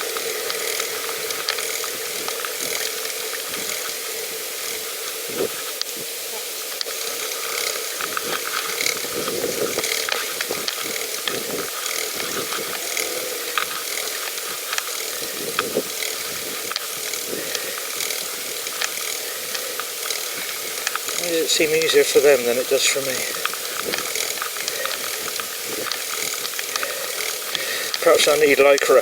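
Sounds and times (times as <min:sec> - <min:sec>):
bicycle chain clicks and rattles: 0:00.0 - 0:06.0, 0:06.6 - 0:29.0
tyre and air hiss: 0:00.0 - 0:29.0.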